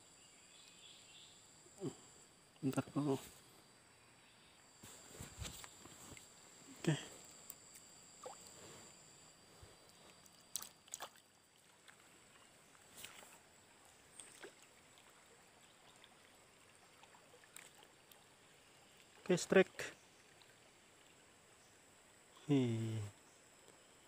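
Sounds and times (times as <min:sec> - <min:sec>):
stream trickling: 0:00.2 - 0:24.0.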